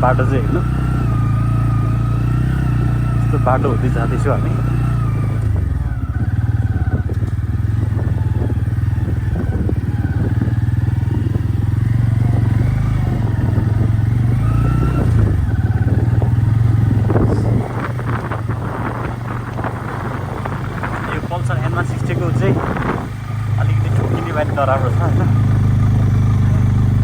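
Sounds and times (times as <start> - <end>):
motorcycle engine running: 0.0 - 27.0
rattling and clatter: 1.1 - 27.0.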